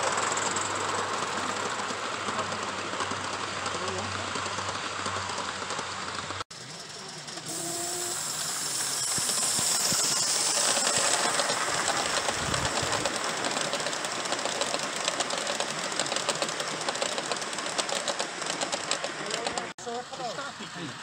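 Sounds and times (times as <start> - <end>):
model steam locomotive hiss: 0.0 - 21.0
wheels clicking on track: 0.0 - 21.0.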